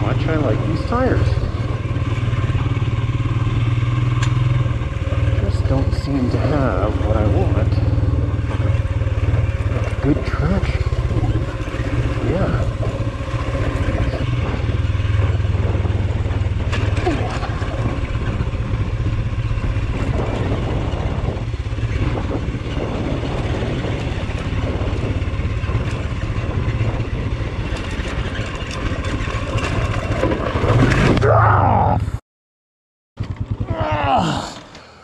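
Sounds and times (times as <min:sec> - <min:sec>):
motorcycle engine running: 0:00.0 - 0:32.2, 0:33.2 - 0:35.0
wind: 0:00.0 - 0:32.2, 0:33.2 - 0:35.0.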